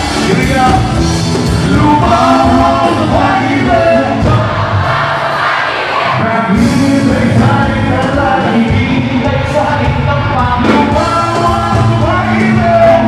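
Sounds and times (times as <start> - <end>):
live rock band with singer: 0.0 - 5.4, 6.0 - 13.0.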